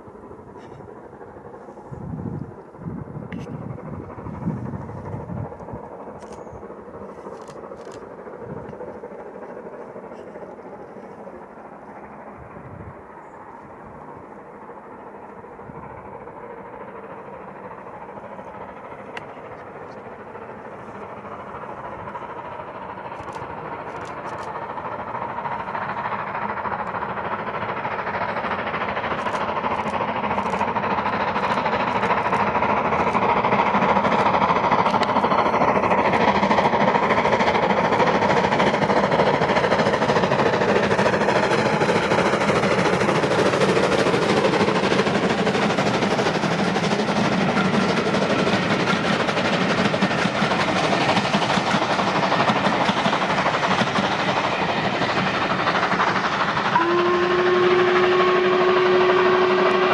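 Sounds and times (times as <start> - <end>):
steam locomotive exhaust beats: 0.0 - 59.9
train coaches rolling by: 0.0 - 59.9.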